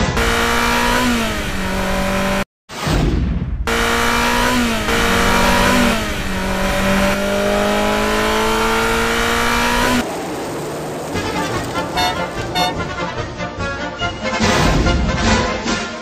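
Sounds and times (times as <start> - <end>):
race car engine accelerating: 0.0 - 2.5, 3.7 - 14.1.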